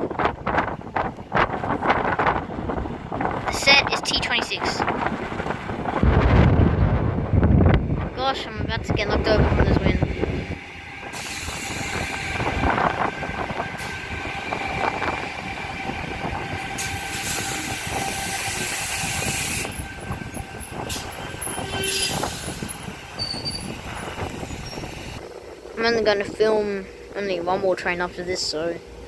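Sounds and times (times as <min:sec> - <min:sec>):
wind buffeting microphone: 0:00.0 - 0:28.0
electric train humming: 0:00.0 - 0:29.0.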